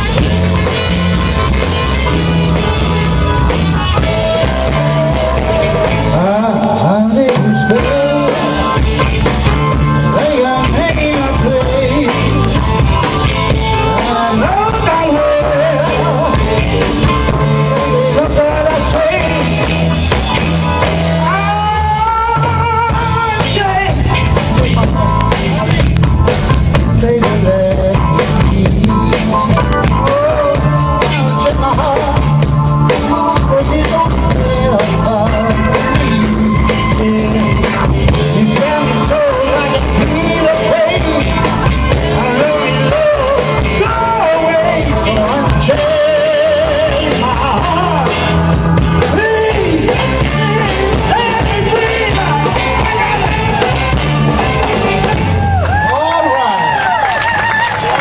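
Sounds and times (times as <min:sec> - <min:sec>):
wavering lead melody: 0:00.0 - 0:55.6
drum kit beat: 0:00.0 - 0:55.9
bass guitar: 0:00.0 - 0:58.0
electric guitars: 0:00.0 - 0:58.0.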